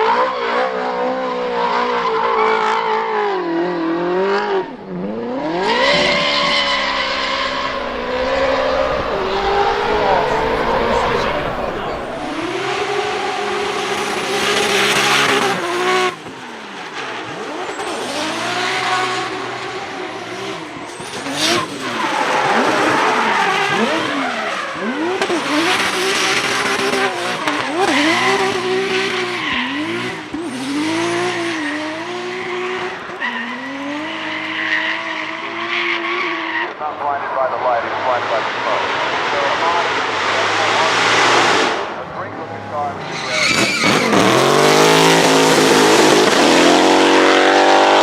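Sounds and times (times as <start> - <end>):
car engine revving: 0.0 - 36.8, 37.9 - 48.0
tyres skidding: 4.2 - 36.8, 39.0 - 48.0.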